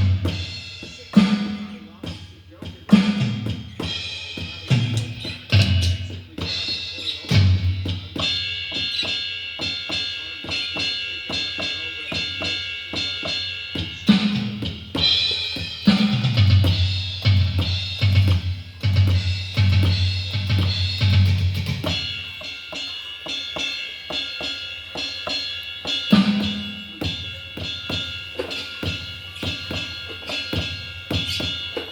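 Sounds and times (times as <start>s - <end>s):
ride cymbal strokes: 0.0s - 31.9s.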